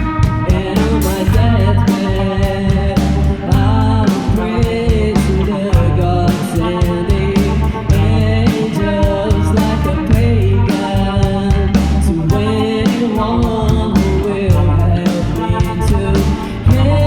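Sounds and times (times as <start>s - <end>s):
drum hits: 0.0s - 14.8s
person singing: 0.0s - 17.0s
rock band playing slow song: 0.0s - 17.0s.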